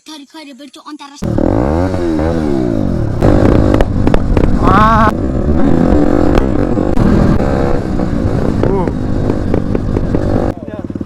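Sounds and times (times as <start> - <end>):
motorcycle engine running: 1.2 - 11.0
road noise: 1.2 - 11.0.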